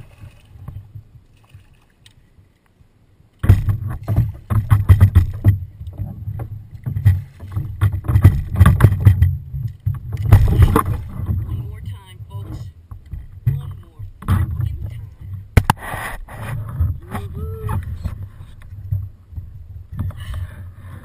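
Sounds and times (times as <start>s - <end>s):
water slapping against kayak hull: 3.4s - 21.0s.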